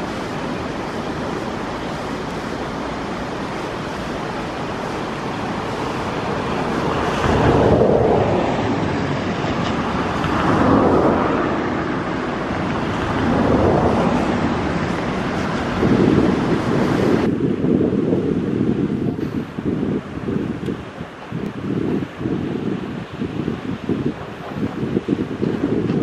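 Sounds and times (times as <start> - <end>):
waves breaking: 0.0 - 17.4, 18.3 - 26.0
wind buffeting microphone: 0.0 - 26.0.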